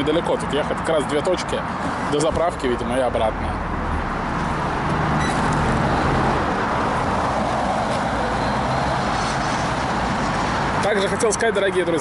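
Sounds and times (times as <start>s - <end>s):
road traffic hiss: 0.0s - 12.0s.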